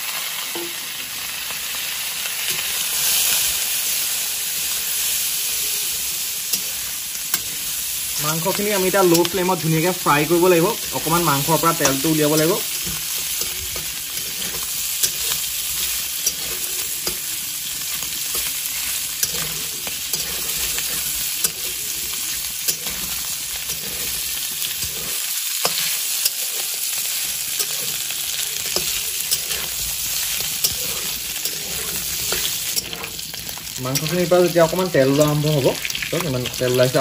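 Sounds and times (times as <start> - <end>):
meat sizzling in oil: 0.0 - 37.0
metal spatula scraping a pan: 2.4 - 36.0.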